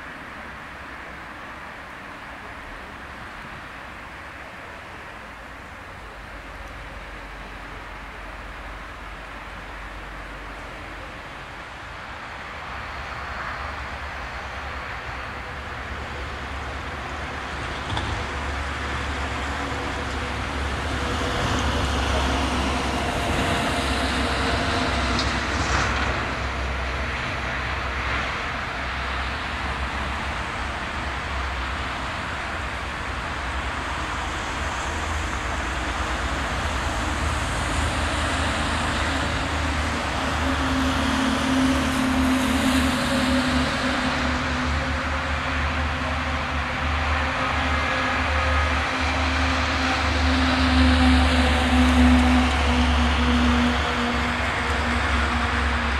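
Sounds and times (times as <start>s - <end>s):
diesel locomotive engine hum: 0.0s - 55.9s.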